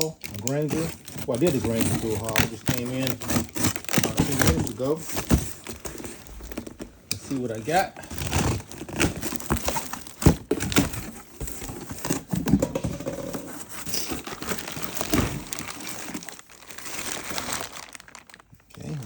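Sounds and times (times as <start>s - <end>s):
packing material crinkling: 0.0s - 19.0s.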